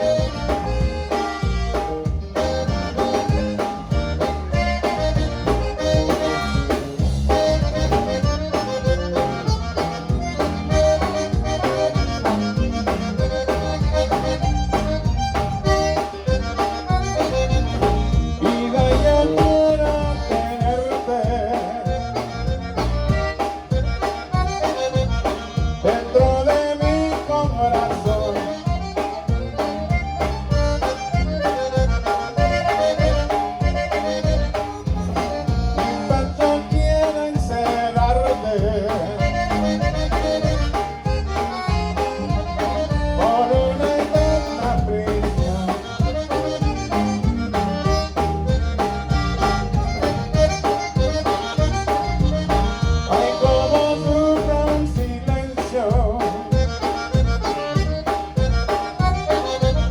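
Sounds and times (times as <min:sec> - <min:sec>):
accordion melody: 0:00.0 - 0:59.9
bass and drum beat: 0:00.0 - 0:59.9.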